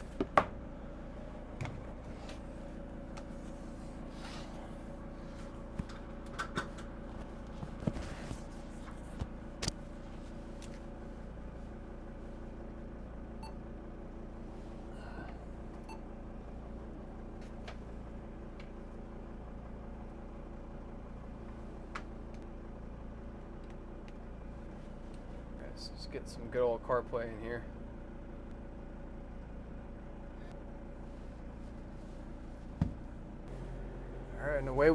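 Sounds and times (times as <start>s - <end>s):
van engine idling: 0.0s - 34.9s.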